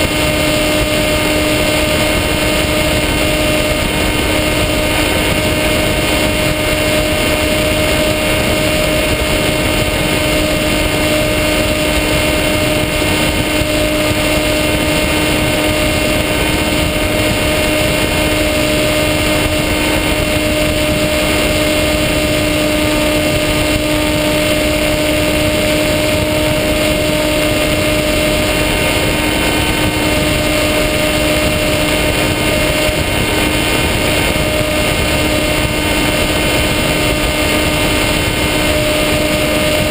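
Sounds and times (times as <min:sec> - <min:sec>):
electric motor and propeller whine: 0:00.0 - 0:39.9
wind noise: 0:00.0 - 0:39.9.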